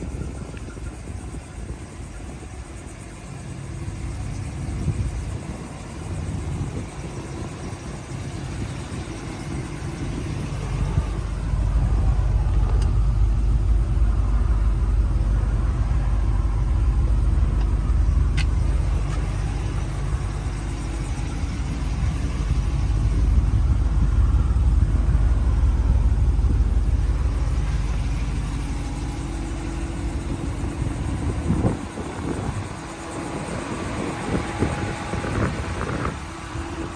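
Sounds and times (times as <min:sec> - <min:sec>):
pickup truck engine rumbling: 0:00.0 - 0:36.9.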